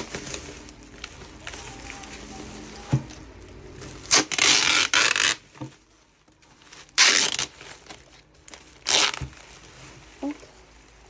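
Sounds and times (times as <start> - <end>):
plastic bag and bubble wrap crinkling: 0.0 - 11.0.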